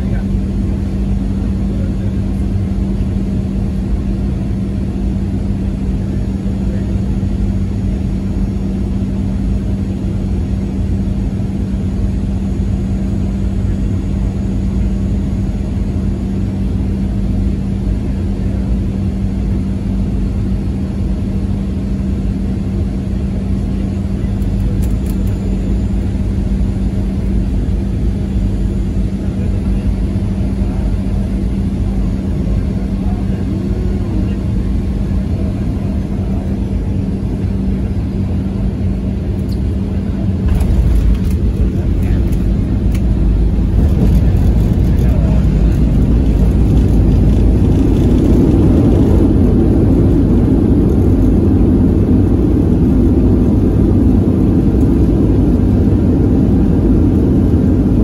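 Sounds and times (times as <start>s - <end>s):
airliner cabin engine rumble: 0.0s - 58.0s
steady hum: 0.0s - 58.0s.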